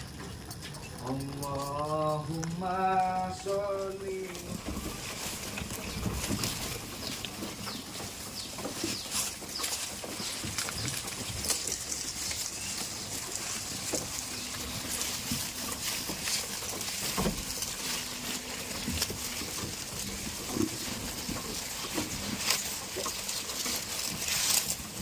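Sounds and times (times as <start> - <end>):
clicks and rustles: 0.0 - 25.0
goats making low held sounds: 0.0 - 25.0.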